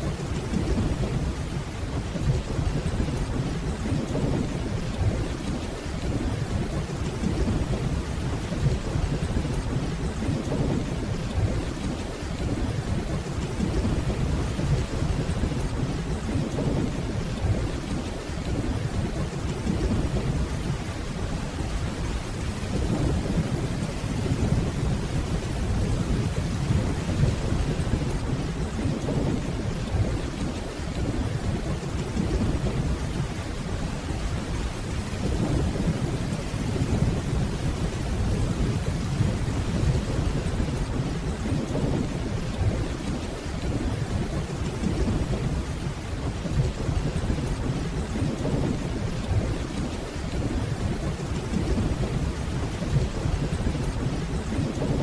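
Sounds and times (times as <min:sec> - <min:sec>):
distant rolling thunder: 0:00.0 - 0:55.0
rainfall: 0:00.0 - 0:55.0.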